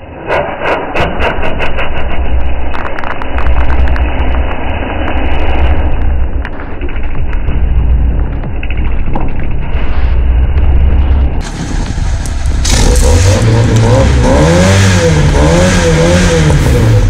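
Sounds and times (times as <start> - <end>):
car engine rumbling: 0.0 - 17.0
exhaust pops and crackles: 0.7 - 17.0.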